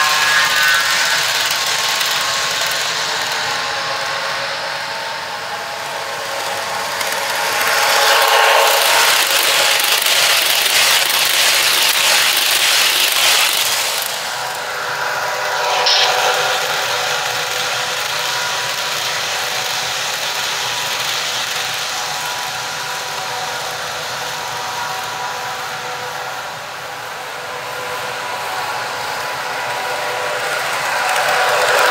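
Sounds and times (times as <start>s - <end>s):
model train wheels clattering: 0.0s - 4.5s, 5.9s - 25.4s, 29.9s - 31.9s
model train motor hum: 0.0s - 31.9s.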